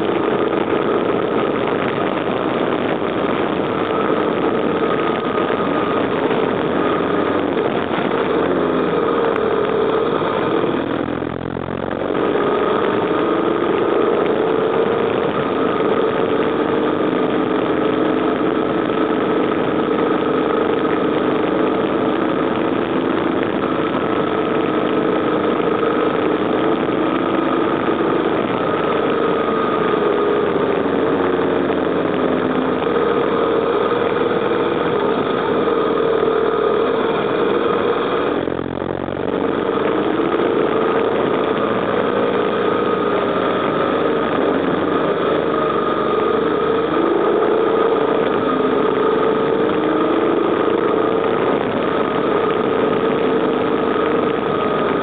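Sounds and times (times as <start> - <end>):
motorcycle engine running: 0.0 - 55.0
road noise: 0.0 - 55.0
wind noise: 0.0 - 55.0.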